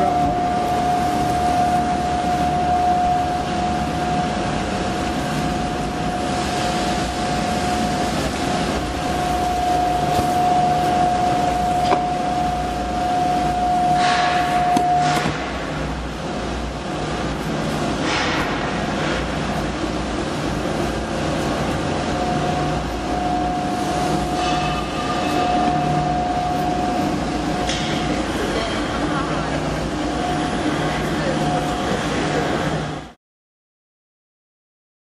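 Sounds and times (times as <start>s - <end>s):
constant machine whine: 0.0s - 33.2s.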